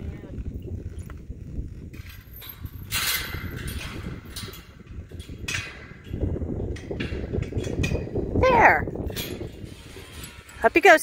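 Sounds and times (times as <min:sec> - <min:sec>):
wind rumbling on microphone: 0:00.0 - 0:11.0
metal chain latch rattling: 0:01.8 - 0:10.7.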